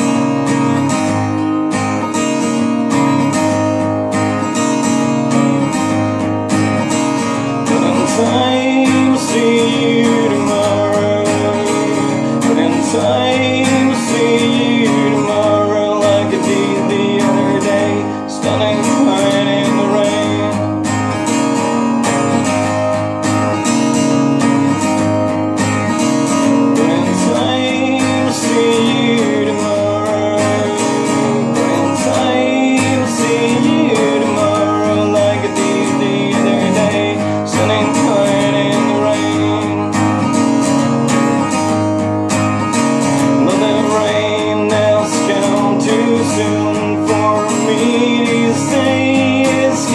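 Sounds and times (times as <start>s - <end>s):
acoustic guitar strumming: 0.0s - 49.9s.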